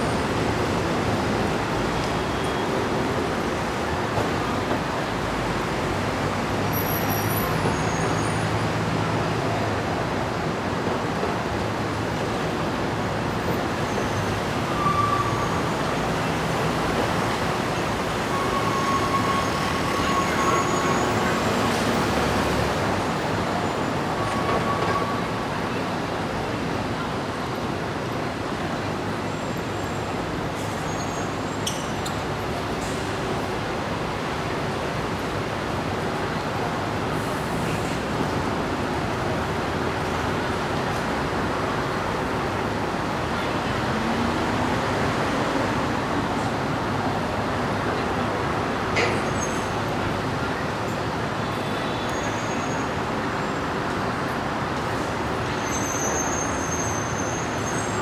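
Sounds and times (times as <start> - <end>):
dense street traffic: 0.0 - 58.0.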